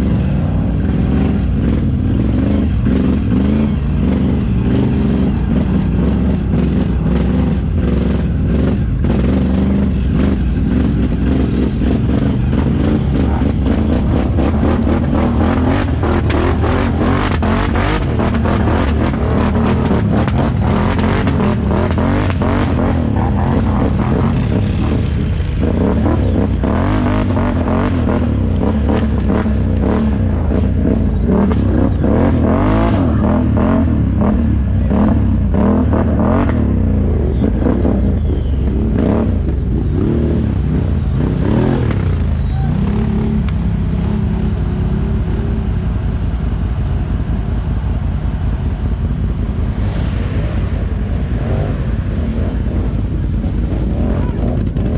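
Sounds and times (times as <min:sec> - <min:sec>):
atv engine revving: 0:00.0 - 0:54.9.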